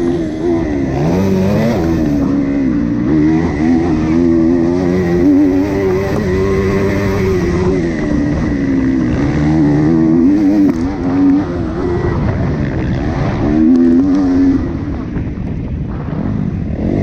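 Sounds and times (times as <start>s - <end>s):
motorcycle engine revving hard: 0.0s - 15.4s.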